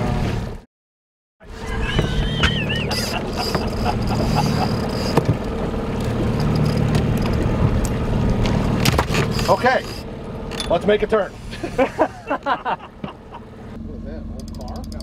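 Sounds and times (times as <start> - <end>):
boat engine running: 1.4 - 15.0.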